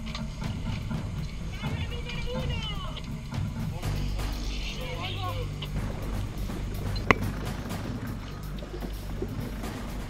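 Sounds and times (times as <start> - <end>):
background music: 0.0 - 10.0
boat engine humming: 0.0 - 10.0.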